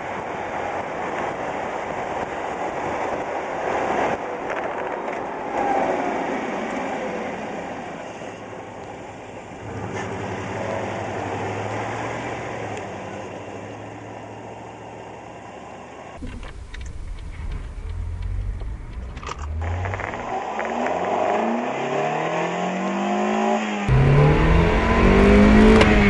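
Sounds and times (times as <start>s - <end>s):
truck engine and exhaust: 0.0s - 22.4s, 23.2s - 26.0s.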